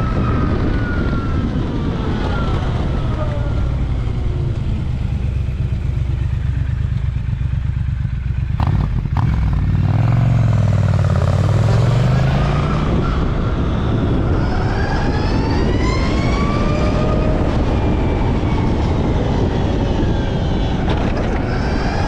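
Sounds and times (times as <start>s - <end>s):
heavy wind rumble: 0.0s - 22.0s.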